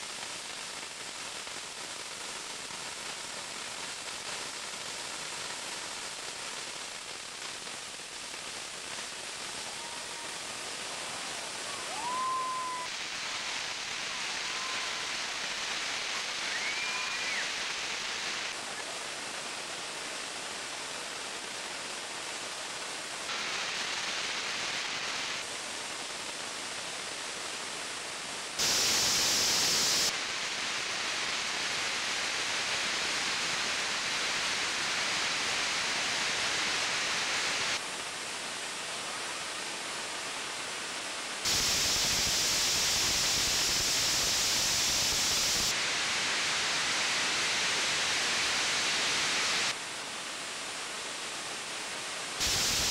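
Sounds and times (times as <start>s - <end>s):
firework fountains hissing: 0.0s - 50.7s, 52.2s - 52.9s.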